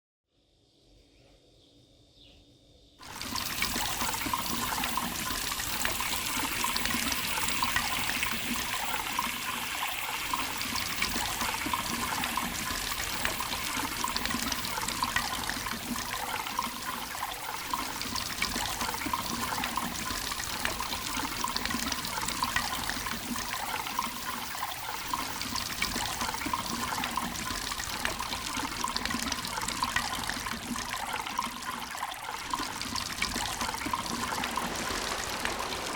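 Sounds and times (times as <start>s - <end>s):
water boiling hard: 3.0s - 35.9s.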